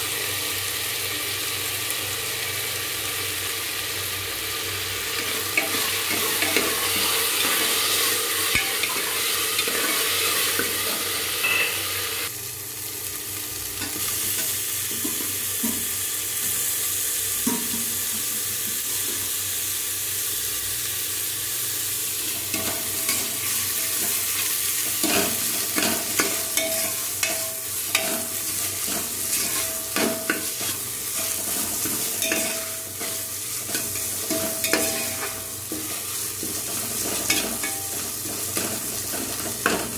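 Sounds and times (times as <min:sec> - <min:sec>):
spices sizzling in hot oil: 0:00.0 - 0:39.9.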